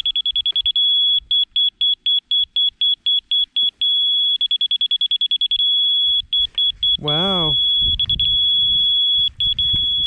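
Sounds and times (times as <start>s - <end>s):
laser receiver beeping: 0.0s - 10.0s.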